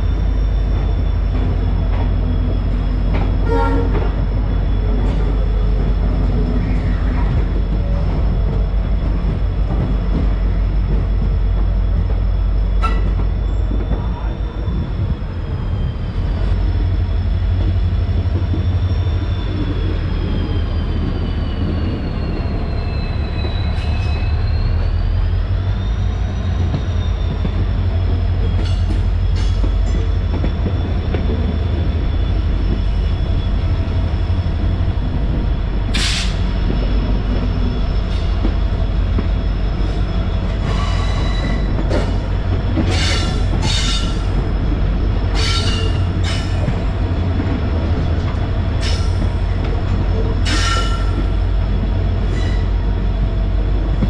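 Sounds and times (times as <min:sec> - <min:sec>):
train rumbling on board: 0:00.0 - 0:54.0.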